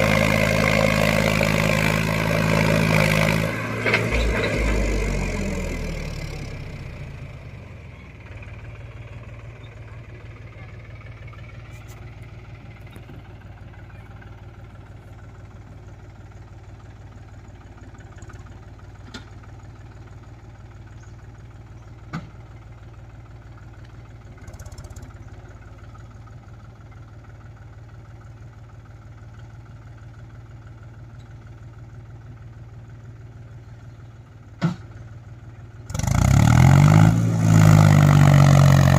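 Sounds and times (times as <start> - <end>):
tractor diesel engine idling: 0.0 - 36.3.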